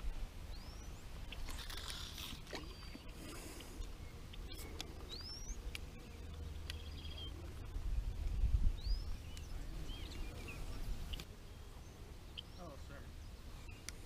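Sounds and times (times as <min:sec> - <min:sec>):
birds chirping: 0:00.4 - 0:14.0.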